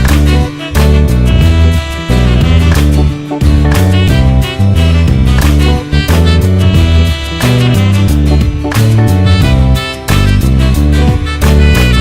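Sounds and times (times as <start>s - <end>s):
instrumental music with bass: 0.0s - 12.0s.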